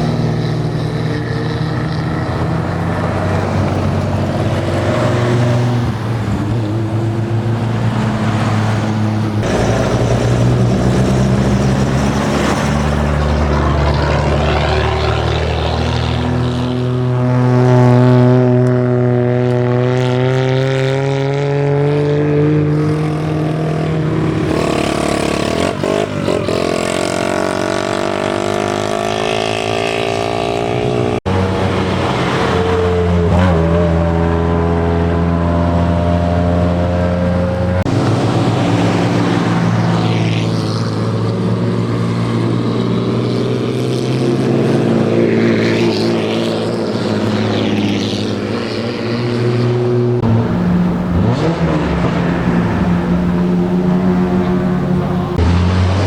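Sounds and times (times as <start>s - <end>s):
old car engines at low revs: 0.0s - 56.0s.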